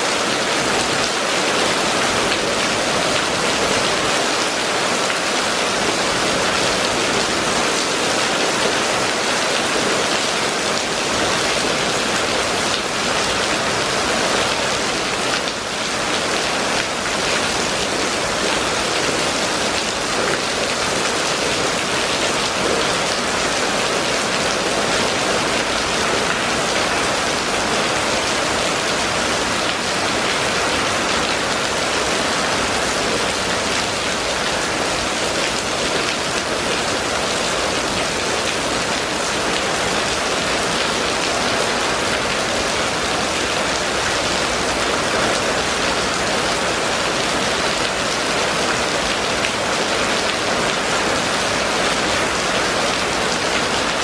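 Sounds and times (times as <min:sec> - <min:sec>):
rain on paved street: 0:00.0 - 0:54.0.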